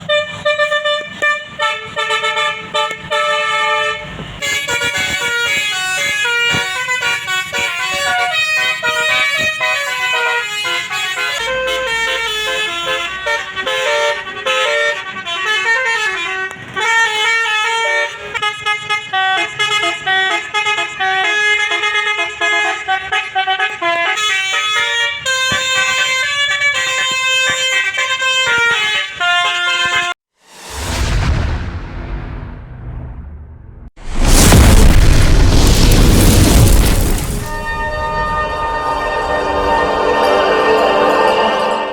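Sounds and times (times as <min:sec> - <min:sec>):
musical air horn playing a tune: 0:00.0 - 0:30.2, 0:37.5 - 0:41.9.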